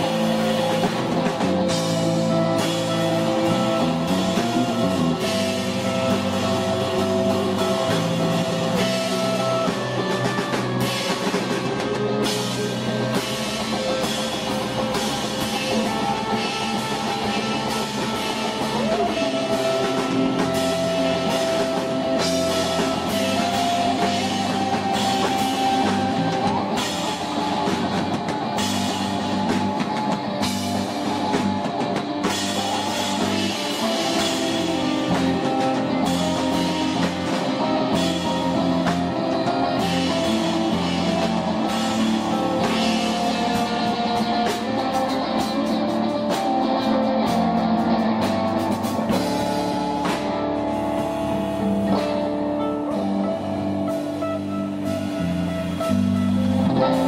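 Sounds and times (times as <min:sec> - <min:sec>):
drum kit with cymbals: 0:00.0 - 0:57.0
guitar: 0:00.0 - 0:57.0.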